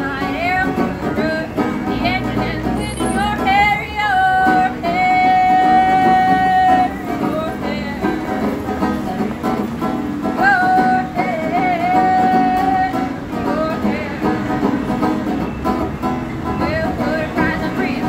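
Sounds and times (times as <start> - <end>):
woman singing: 0.0 - 15.4, 16.4 - 18.0
banjo playing: 0.0 - 18.0.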